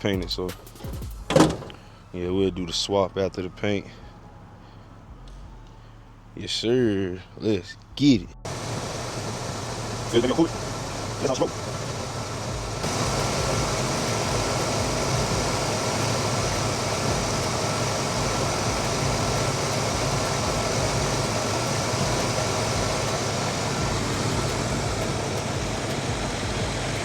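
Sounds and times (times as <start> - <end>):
road and wind noise: 1.3 - 27.0
car engine hum: 3.4 - 27.0.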